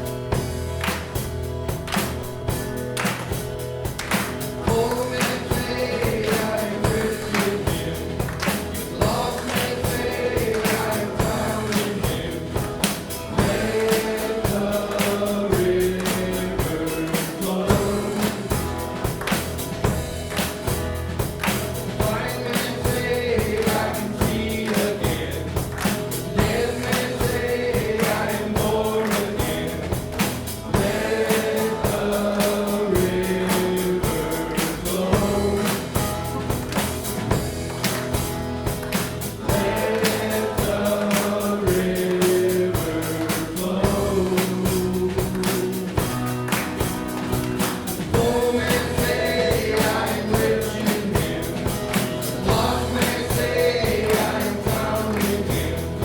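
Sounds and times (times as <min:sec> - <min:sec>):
group singing worship music: 0:00.0 - 0:56.0.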